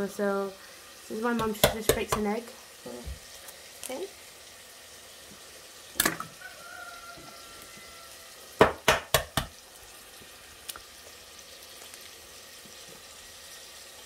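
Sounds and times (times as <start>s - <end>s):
low hiss of frying: 0.0s - 14.0s.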